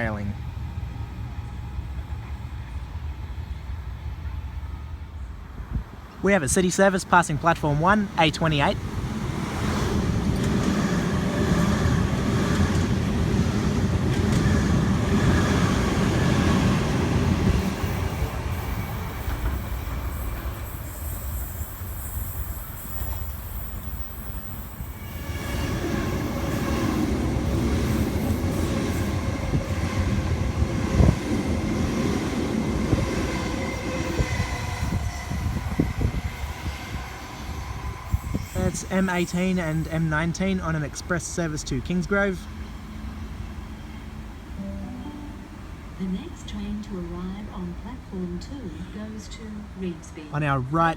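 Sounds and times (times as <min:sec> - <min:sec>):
train wheels rumbling: 0:00.0 - 0:44.6
electric train passing: 0:00.0 - 0:50.9
train whine: 0:00.0 - 0:50.9.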